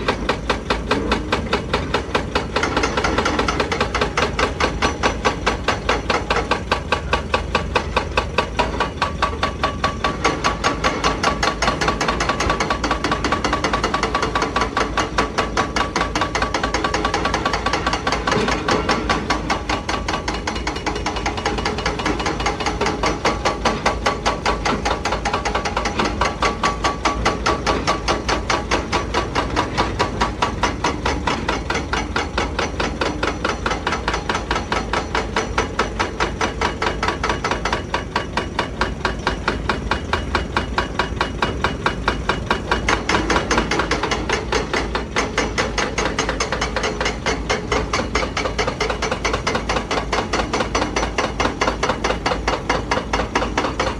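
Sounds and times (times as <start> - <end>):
hydraulic breaker hammering rock: 0.0 - 53.9.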